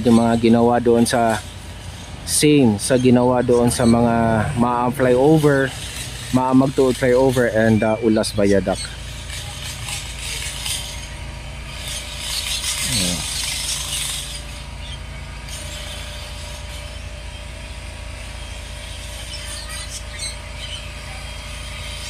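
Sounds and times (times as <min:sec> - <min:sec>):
traffic and machinery rumble: 0:00.0 - 0:22.0.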